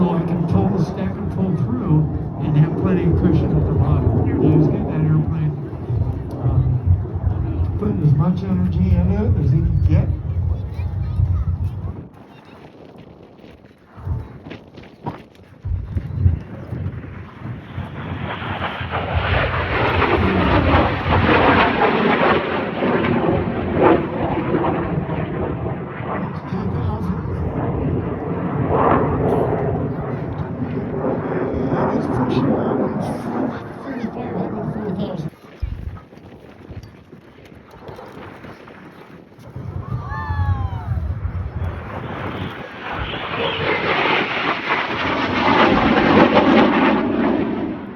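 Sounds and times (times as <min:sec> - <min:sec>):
jet aircraft passing: 0:00.0 - 0:12.9, 0:13.9 - 0:36.1, 0:37.7 - 0:47.9.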